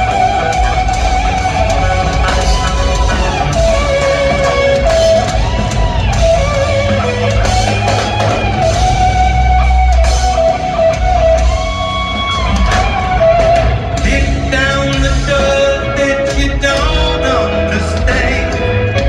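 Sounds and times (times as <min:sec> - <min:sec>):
electric guitar bending notes: 0:00.0 - 0:19.0
live rock band playing: 0:00.0 - 0:19.0.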